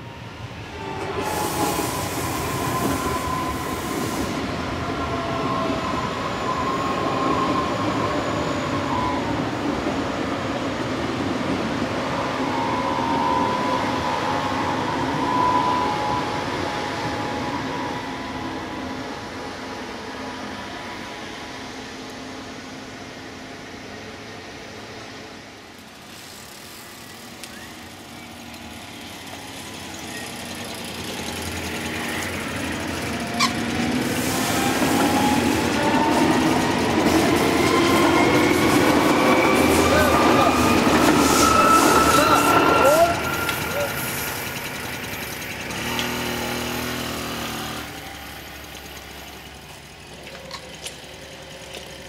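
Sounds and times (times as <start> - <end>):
train wheels on rails: 0.0 - 52.0.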